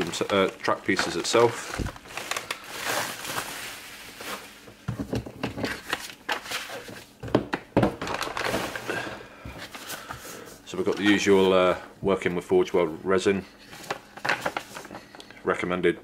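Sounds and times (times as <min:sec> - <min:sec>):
bubble wrap and plastic bags crinkling: 0:00.0 - 0:07.2, 0:07.8 - 0:12.9, 0:13.6 - 0:15.2.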